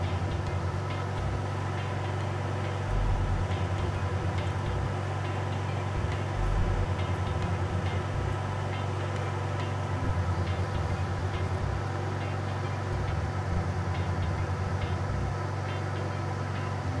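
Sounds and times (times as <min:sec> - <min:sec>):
blower humming: 0:00.0 - 0:17.0.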